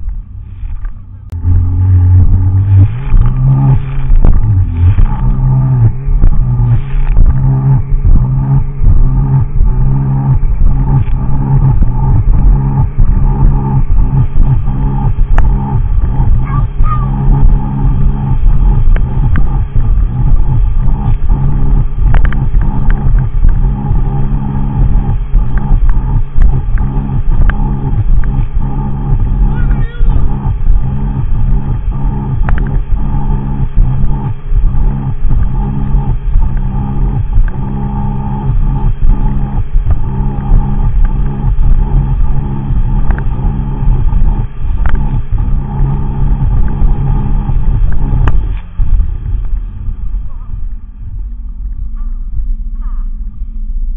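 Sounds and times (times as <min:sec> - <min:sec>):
watercraft engine droning: 0:00.0 - 0:53.9
sharp ticks: 0:01.3 - 0:49.7.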